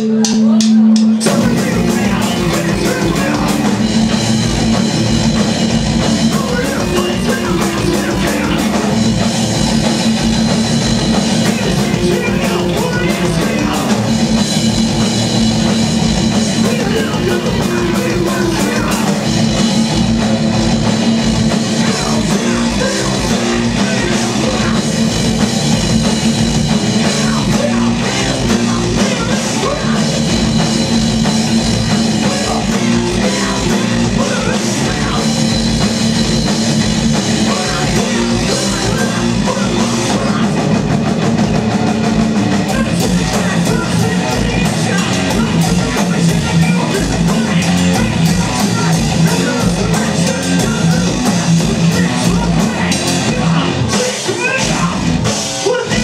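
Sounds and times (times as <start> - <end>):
metal band playing live: 0.0 - 56.0
fast drum strokes: 0.2 - 56.0.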